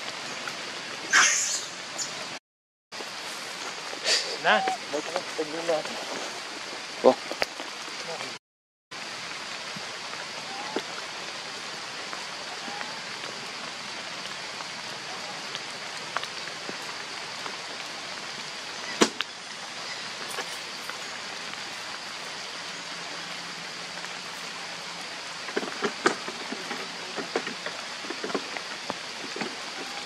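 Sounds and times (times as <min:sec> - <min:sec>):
rain falling in forest: 0:00.0 - 0:30.0.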